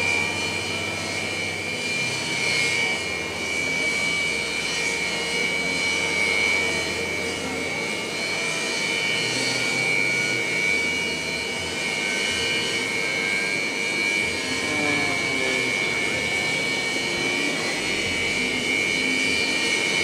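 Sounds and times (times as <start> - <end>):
jet turbines whining: 0.0 - 20.0.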